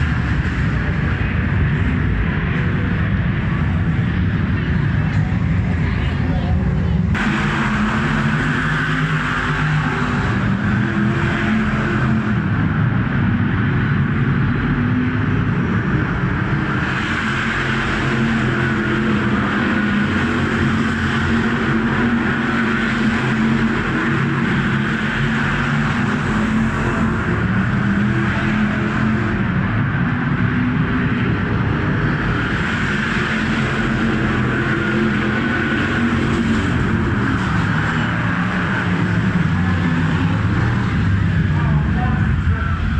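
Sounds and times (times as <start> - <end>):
racing car engines: 0.0 - 42.9.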